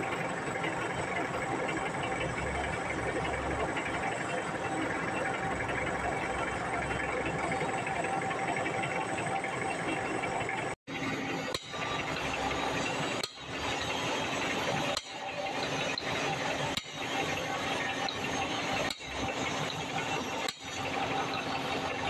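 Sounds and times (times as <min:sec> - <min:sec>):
steady machinery noise: 0:00.0 - 0:22.0.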